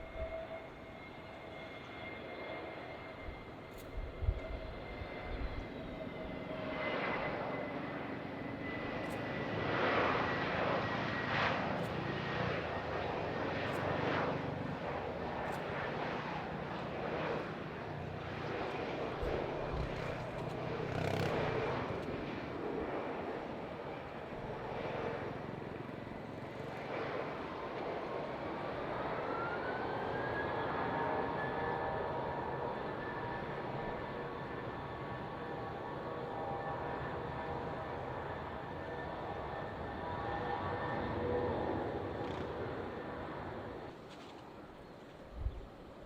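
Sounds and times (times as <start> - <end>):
jet engine roar: 0.0 - 46.0
jet engine whine: 0.0 - 46.0.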